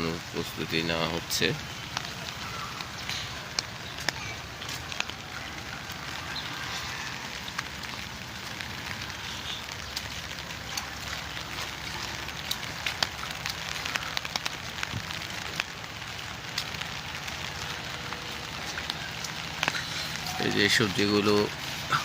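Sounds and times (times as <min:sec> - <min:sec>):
raindrops tapping surfaces: 0:00.0 - 0:22.0
steady rain hiss: 0:00.0 - 0:22.0.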